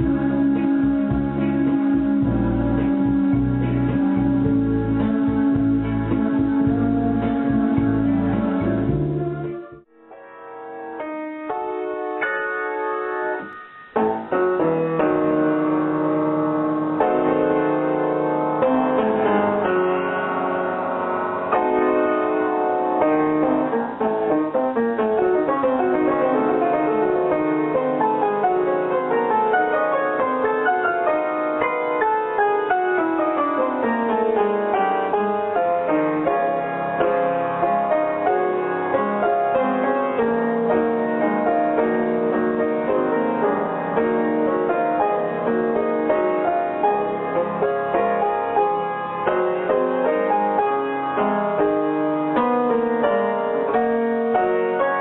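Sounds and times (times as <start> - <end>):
piano music with falling runs: 0.0 - 55.0.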